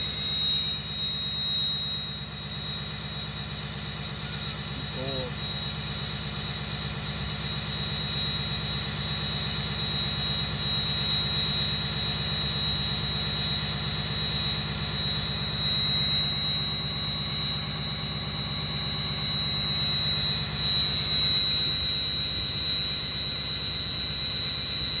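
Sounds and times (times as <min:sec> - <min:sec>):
high turbocharger whistle: 0:00.0 - 0:25.0.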